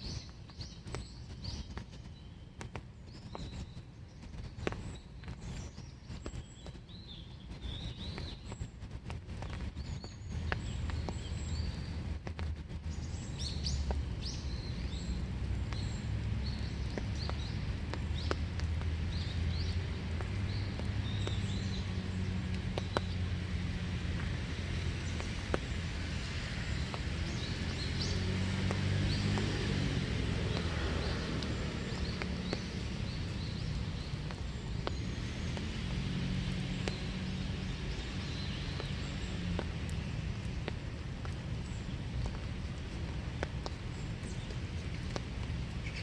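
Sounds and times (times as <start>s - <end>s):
birds chirping: 0.0s - 46.0s
light rain falling: 0.0s - 46.0s
raindrops ticking: 0.0s - 46.0s
steady low rumble: 0.0s - 46.0s.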